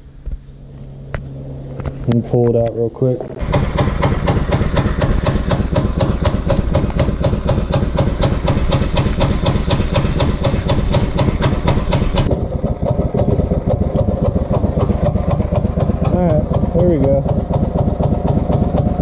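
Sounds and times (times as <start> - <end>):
small gasoline engine chugging: 3.3 - 19.0.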